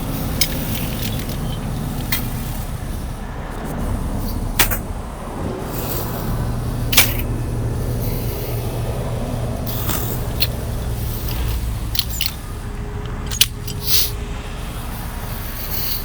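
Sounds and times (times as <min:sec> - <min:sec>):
truck diesel engine idling: 0:00.0 - 0:16.0.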